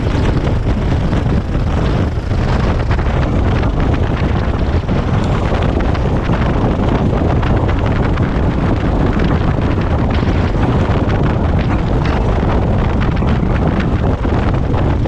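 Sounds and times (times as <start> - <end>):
propeller airplane engine running: 0.0 - 15.0
wind buffeting microphone: 0.0 - 15.0.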